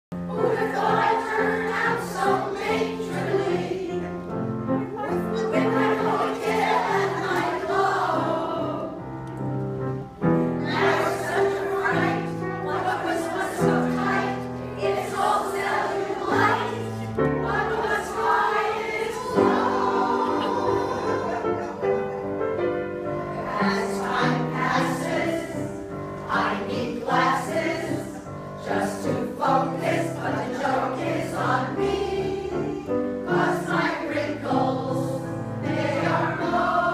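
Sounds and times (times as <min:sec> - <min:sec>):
women's choir singing: 0:00.2 - 0:09.2, 0:09.8 - 0:36.9.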